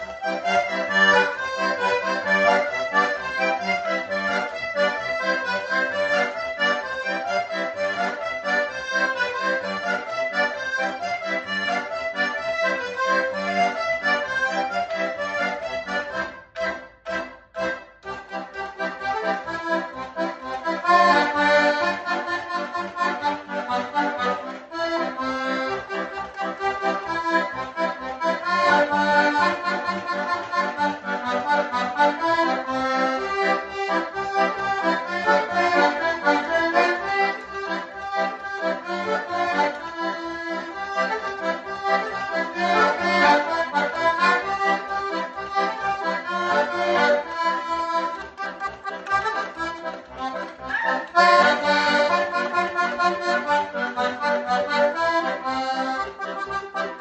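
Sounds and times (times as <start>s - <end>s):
button accordion playing polka: 0.0s - 57.0s.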